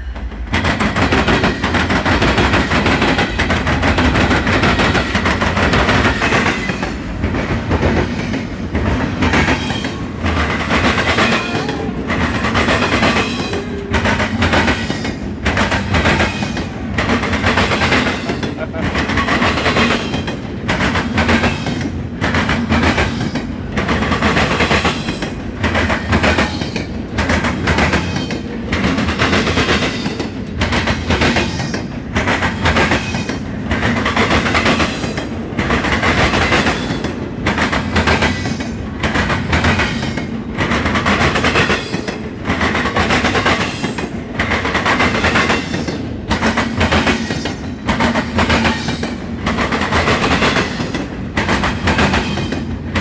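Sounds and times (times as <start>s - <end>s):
train wheels clattering over rail joints: 0.0s - 53.0s.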